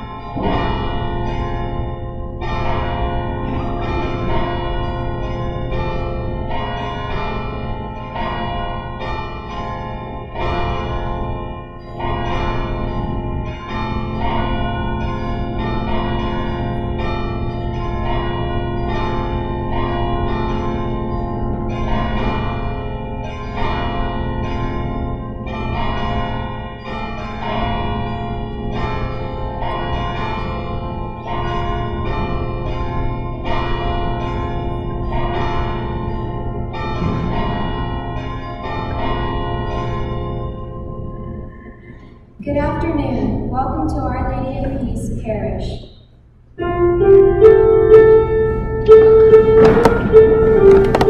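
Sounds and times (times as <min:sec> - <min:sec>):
church bells pealing: 0:00.0 - 0:43.0, 0:46.6 - 0:51.0.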